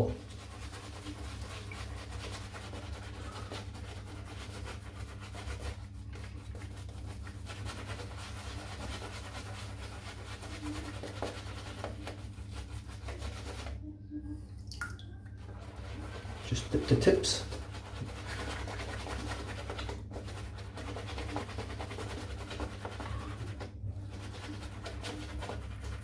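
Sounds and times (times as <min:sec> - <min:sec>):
shaving brush scrubbing lather: 0:00.0 - 0:13.8, 0:15.4 - 0:26.0.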